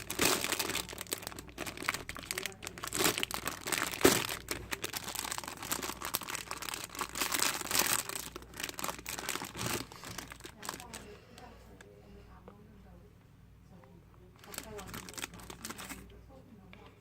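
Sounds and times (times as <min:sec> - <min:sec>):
crinkly packaging crackling: 0:00.0 - 0:11.9, 0:14.4 - 0:16.1.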